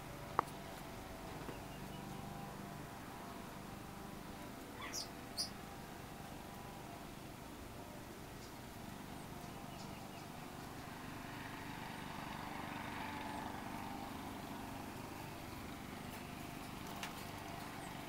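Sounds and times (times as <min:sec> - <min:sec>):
faint outdoor rumble: 0:00.0 - 0:18.0.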